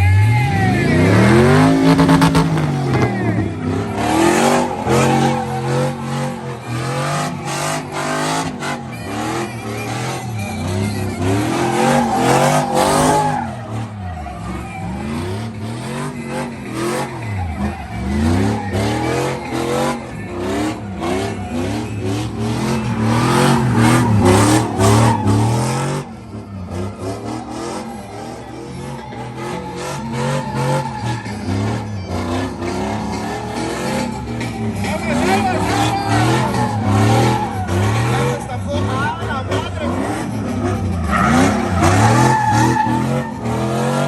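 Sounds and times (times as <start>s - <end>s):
tire noise: 0.0s - 44.0s
truck engine revving hard: 0.0s - 44.0s.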